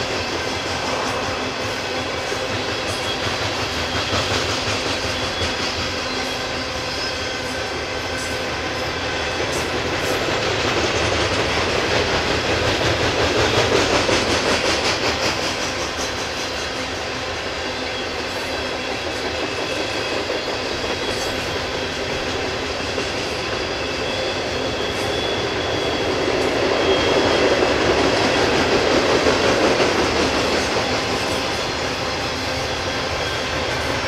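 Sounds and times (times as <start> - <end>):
freight train cars rolling on rails: 0.0 - 34.0.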